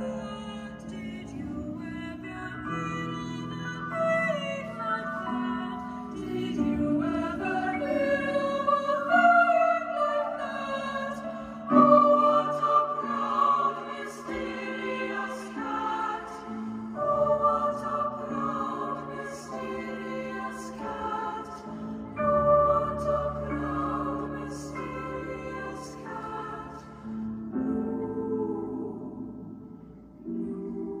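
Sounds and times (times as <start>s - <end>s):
slow choir-like music: 0.0s - 31.0s.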